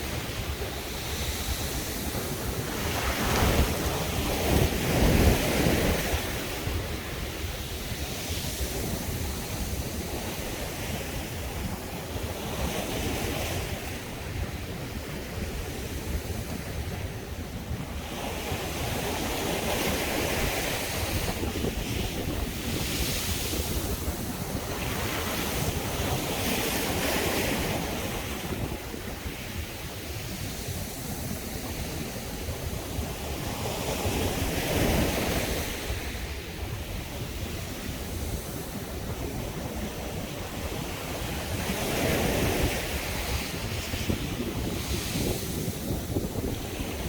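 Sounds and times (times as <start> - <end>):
sea waves washing onto beach: 0.0 - 47.0
wind buffeting microphone: 0.0 - 47.0.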